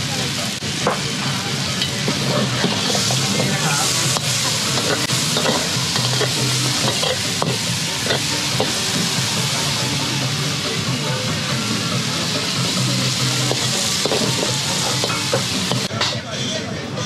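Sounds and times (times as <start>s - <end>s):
noodles sizzling in wok: 0.0s - 16.2s.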